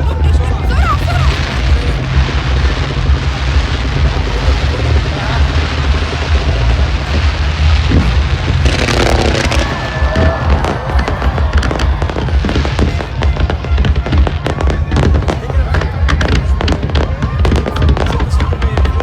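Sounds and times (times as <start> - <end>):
fireworks bangs and crackling: 0.0 - 19.0
loud music with heavy bass: 0.0 - 19.0.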